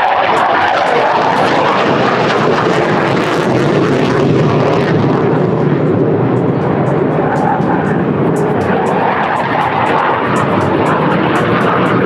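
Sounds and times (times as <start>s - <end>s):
jet engine roar low pass: 0.0s - 12.0s.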